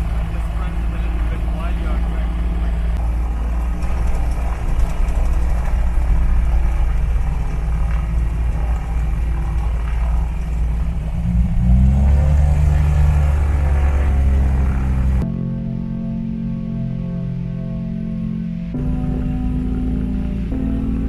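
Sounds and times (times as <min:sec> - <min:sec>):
propeller aircraft engines droning: 0:00.0 - 0:21.0.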